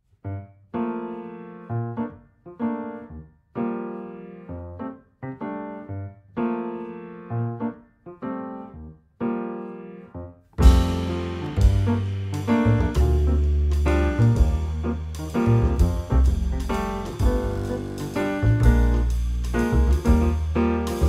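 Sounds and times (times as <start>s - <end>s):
slow piano chords: 0.3s - 21.0s.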